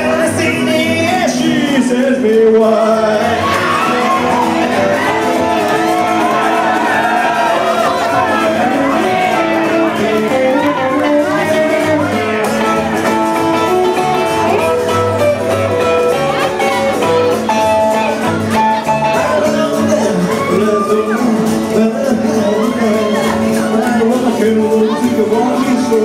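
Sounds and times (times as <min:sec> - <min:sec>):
live rockabilly band: 0:00.0 - 0:26.0.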